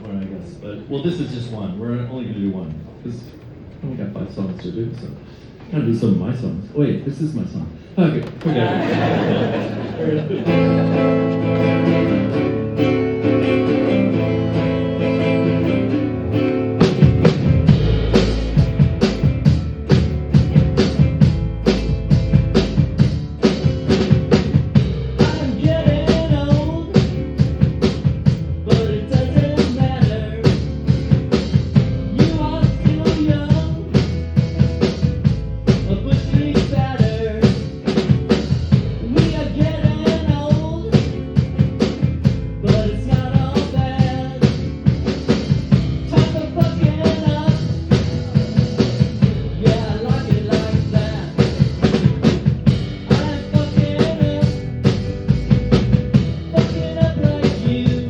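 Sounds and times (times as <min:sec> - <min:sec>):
rock band playing live: 0:08.3 - 0:58.0
drum kit beat: 0:08.5 - 0:58.0.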